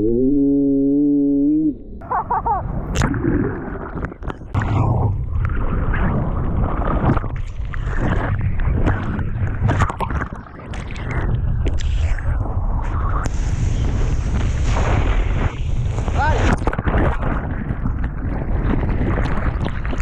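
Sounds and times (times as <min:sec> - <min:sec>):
sea water splashing and sloshing: 0:02.4 - 0:20.0.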